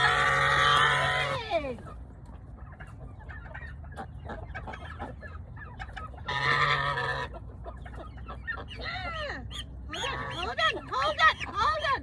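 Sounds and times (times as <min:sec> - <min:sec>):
turkey clucking: 0:00.0 - 0:12.0.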